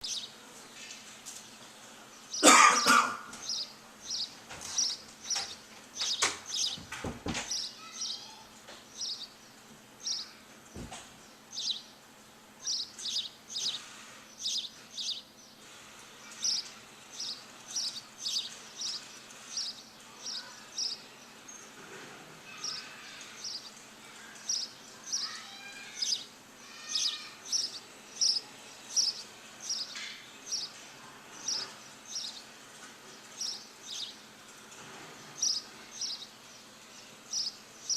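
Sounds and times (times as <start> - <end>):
birds chirping: 0.0 - 37.9.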